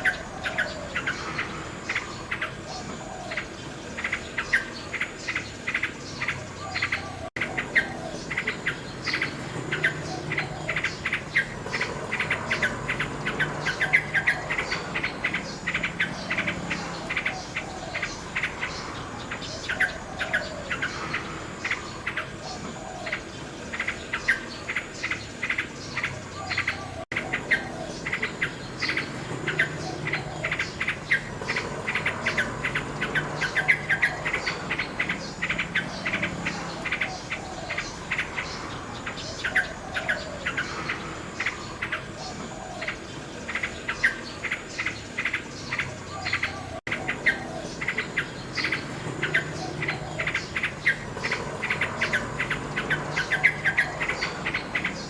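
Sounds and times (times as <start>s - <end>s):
crickets chorus: 0.0s - 55.0s
nightingale singing: 0.0s - 55.0s.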